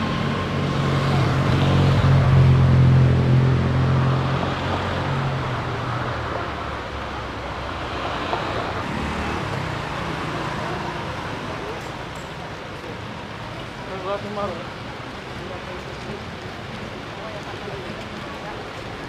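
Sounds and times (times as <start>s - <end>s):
passing vehicle engine hum: 0.0s - 19.0s
traffic noise: 0.0s - 19.0s.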